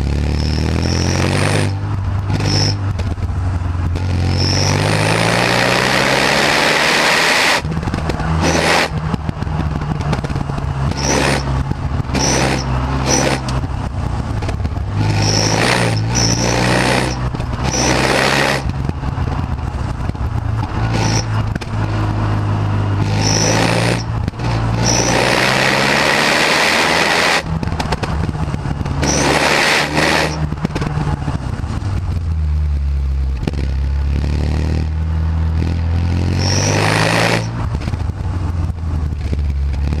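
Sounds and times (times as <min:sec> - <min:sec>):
car engine revving: 0:00.0 - 0:40.0
road noise: 0:00.0 - 0:40.0
rushing wind: 0:00.0 - 0:40.0.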